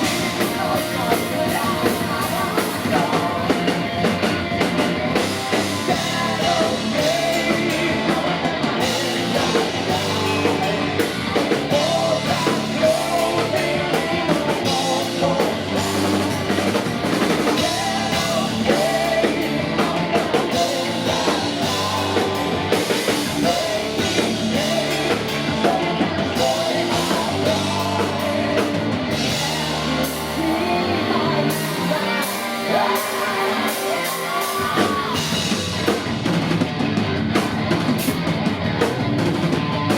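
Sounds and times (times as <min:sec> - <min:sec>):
person singing: 0:00.0 - 0:35.9
bass guitar: 0:00.0 - 0:39.9
distorted electric guitars: 0:00.0 - 0:39.9
driving drum kit: 0:00.0 - 0:39.9.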